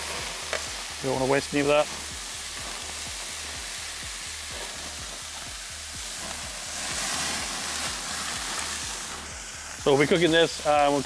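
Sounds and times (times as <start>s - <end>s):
marinade flaring up hiss: 0.0s - 11.0s
steak sizzling on a grill: 0.0s - 11.0s.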